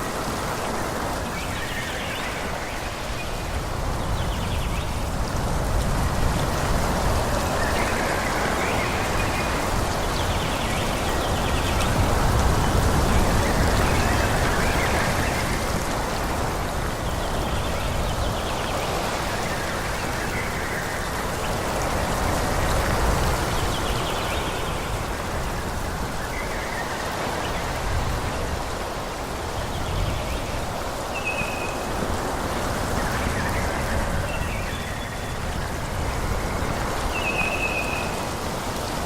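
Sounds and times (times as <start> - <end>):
wind through trees: 0.0 - 39.0.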